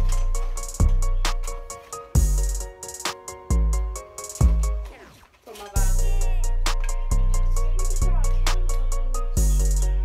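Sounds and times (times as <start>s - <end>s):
sustained keyboard melody: 0.0s - 10.0s.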